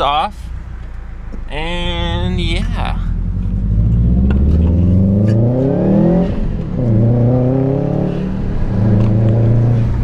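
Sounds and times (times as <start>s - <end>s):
car engine accelerating: 0.7s - 10.0s.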